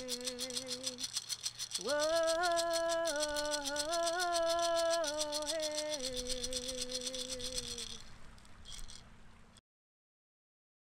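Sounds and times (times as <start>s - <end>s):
fast shaken rattle: 0.0s - 9.2s.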